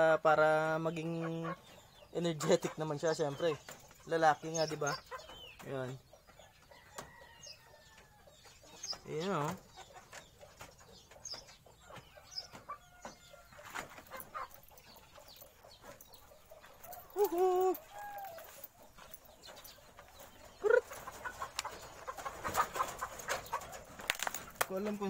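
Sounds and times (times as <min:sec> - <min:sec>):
chicken clucking: 0:00.3 - 0:25.0.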